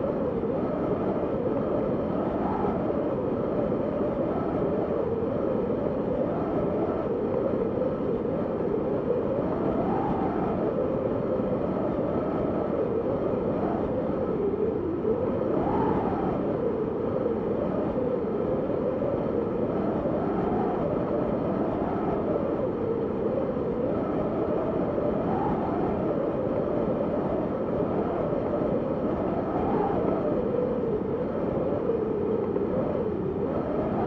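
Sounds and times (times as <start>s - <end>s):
howling wind: 0.0s - 34.0s.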